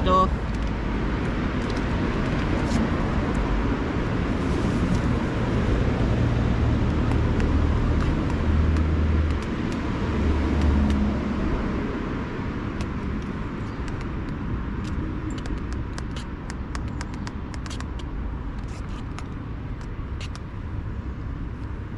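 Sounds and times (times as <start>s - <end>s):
road traffic rushing: 0.0s - 21.9s.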